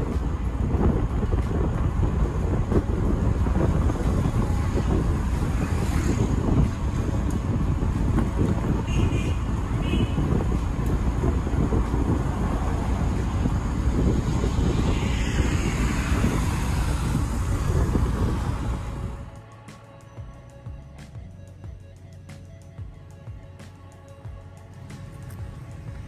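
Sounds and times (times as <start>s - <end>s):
road and traffic rumble: 0.0s - 26.0s.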